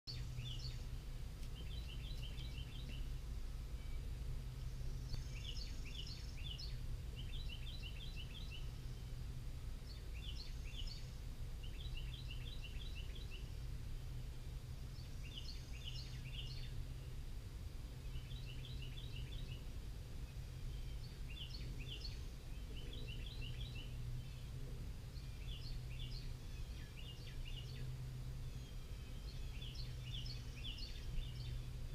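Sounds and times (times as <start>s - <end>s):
songbirds chirping: 0.1s - 31.9s
steady low rumble: 0.1s - 31.9s.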